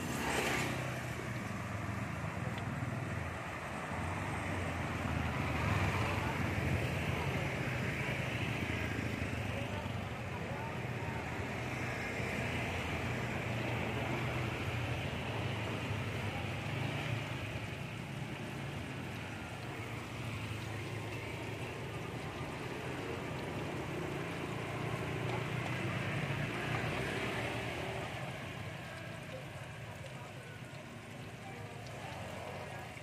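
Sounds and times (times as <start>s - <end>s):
chicken deep-frying in oil: 0.0s - 33.0s.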